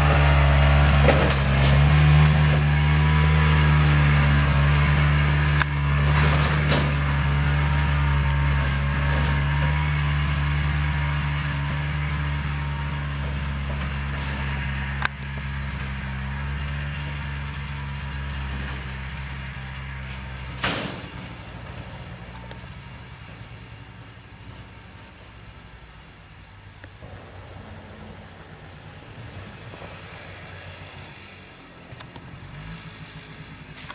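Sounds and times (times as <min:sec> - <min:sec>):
atv engine running under load: 0:00.0 - 0:26.0, 0:26.8 - 0:33.9.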